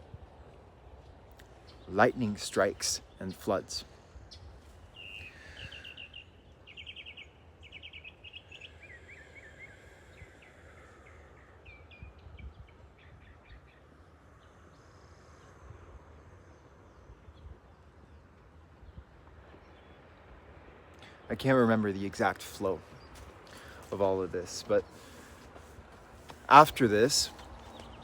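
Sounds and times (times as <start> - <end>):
birdsong trills and chirps: 0.0 - 20.3, 21.0 - 28.0.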